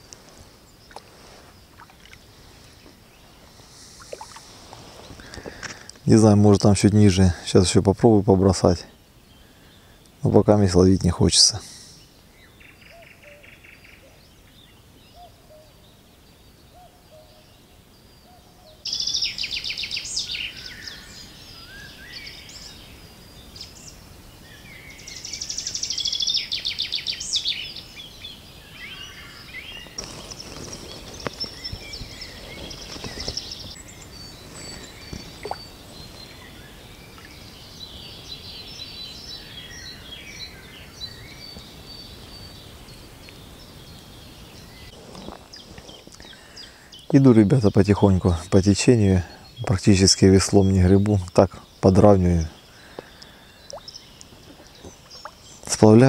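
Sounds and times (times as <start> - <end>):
quiet bird chirps: 0.0 - 56.0
songbirds trilling: 0.0 - 56.0.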